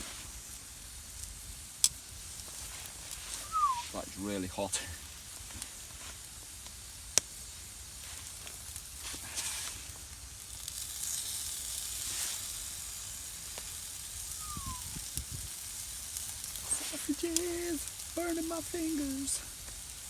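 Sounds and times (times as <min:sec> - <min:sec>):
sausages sizzling over fire: 0:00.0 - 0:20.0.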